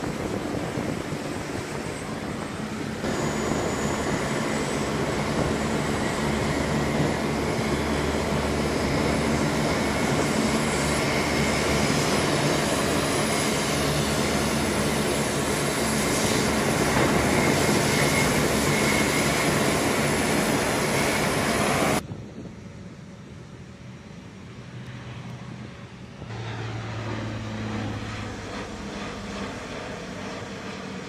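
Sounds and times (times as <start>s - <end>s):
high engine whine: 0.0s - 31.0s
propeller aircraft taxiing: 0.0s - 31.0s.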